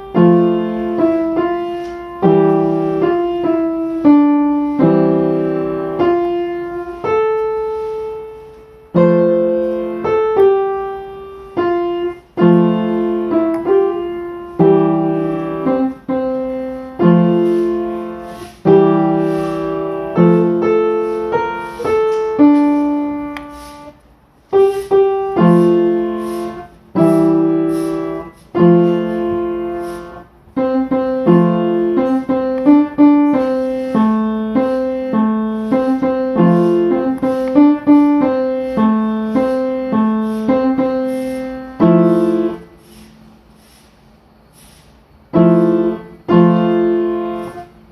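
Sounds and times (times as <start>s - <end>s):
solo piano chords: 0.0s - 43.6s, 44.2s - 47.9s.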